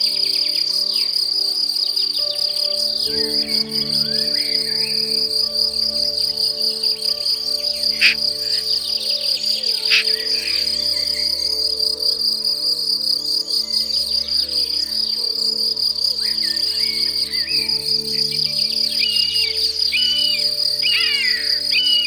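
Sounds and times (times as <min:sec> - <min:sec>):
high-pitched insect trill: 0:00.0 - 0:22.0
soft background music: 0:00.0 - 0:22.0
bird chirps: 0:02.2 - 0:12.2, 0:13.4 - 0:22.0.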